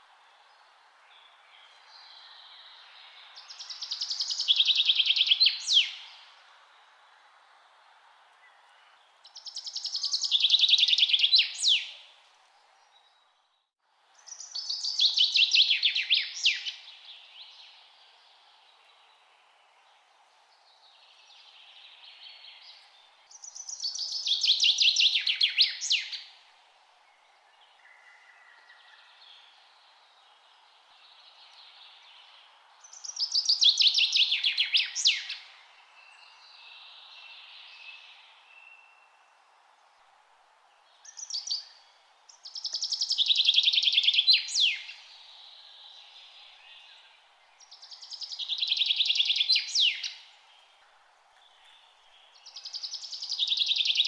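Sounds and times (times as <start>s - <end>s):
faint hiss: 0.0s - 54.0s
songbird singing: 0.0s - 54.0s.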